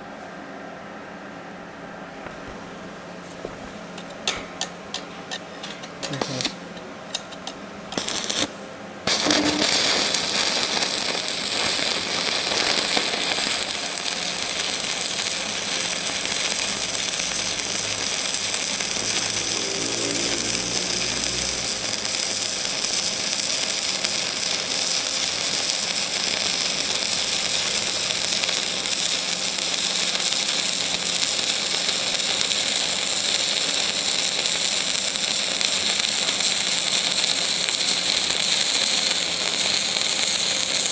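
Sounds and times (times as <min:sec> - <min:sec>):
arc welder crackling and hissing: 0:05.3 - 0:40.9.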